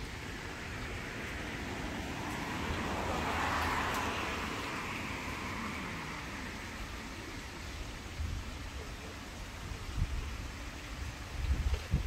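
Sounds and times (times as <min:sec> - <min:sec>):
passing vehicle road noise: 0:00.0 - 0:12.0.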